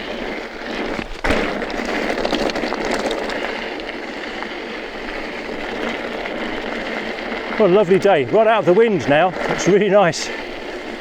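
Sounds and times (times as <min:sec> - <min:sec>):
bike tyres rushing over ground: 0:00.0 - 0:11.0.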